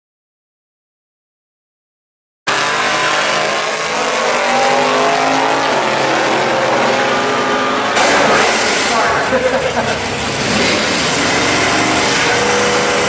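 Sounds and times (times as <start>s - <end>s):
drag car engines at full throttle: 2.5s - 13.0s.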